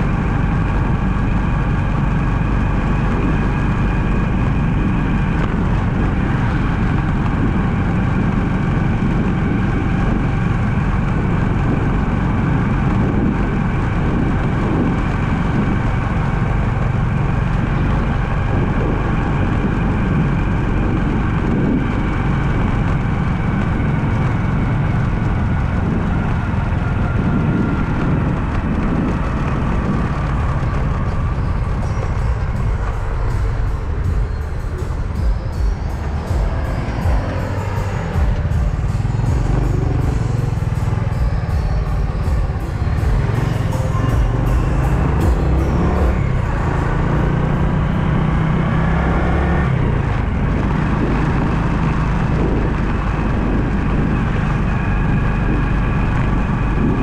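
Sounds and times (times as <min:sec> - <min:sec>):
thin steady whine: 0:00.0 - 0:51.7
car engine and road rumble: 0:00.0 - 0:57.0.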